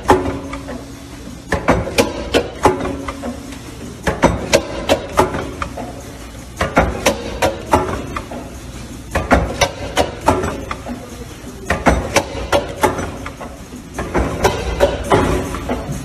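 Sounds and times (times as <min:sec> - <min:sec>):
packing machine clacking: 0:00.0 - 0:16.0
steady machine hum: 0:00.0 - 0:16.0.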